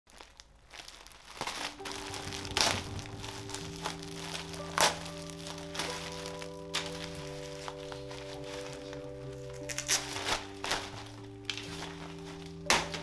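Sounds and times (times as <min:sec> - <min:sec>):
plastic wrapping crinkling: 0:00.1 - 0:13.0
background music with held notes: 0:01.4 - 0:13.0.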